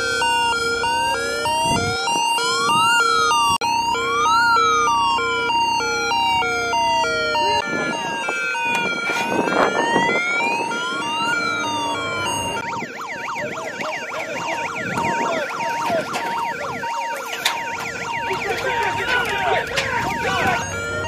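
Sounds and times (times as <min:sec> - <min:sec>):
siren wailing and yelping: 0:00.0 - 0:21.0.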